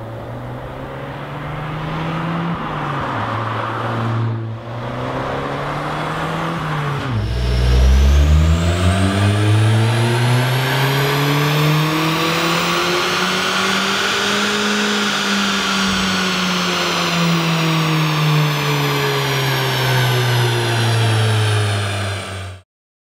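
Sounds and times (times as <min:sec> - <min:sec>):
car engine revving under load: 0:00.0 - 0:22.6.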